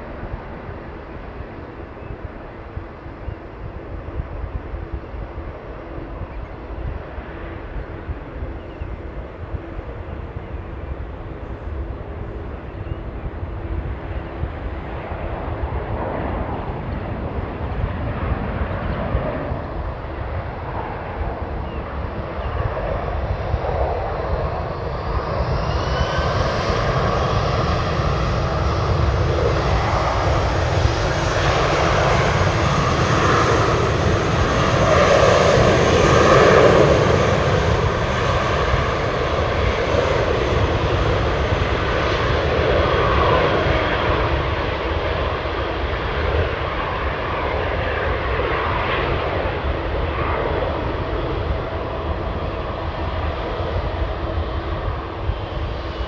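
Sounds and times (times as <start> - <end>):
jet plane passing roar: 0.0 - 56.0.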